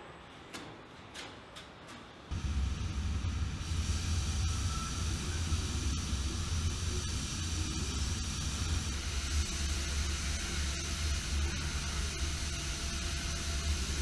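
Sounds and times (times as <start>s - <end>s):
even hiss of spraying air: 2.3s - 14.0s
low machinery rumble: 2.3s - 14.0s.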